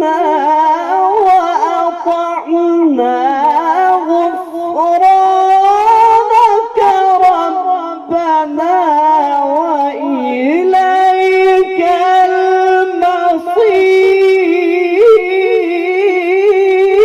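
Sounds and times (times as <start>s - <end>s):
man chanting melodic recitation: 0.0s - 17.0s.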